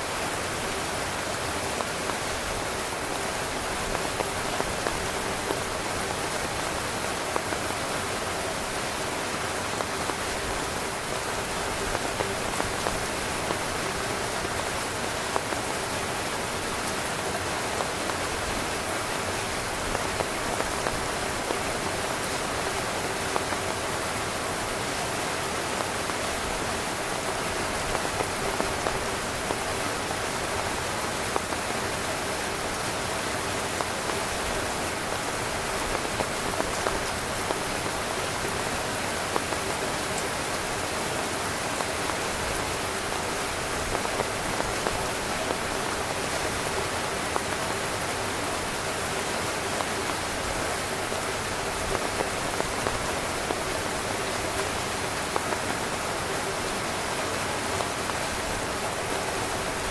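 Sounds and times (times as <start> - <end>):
heavy rain on tent fabric: 0.0 - 59.9.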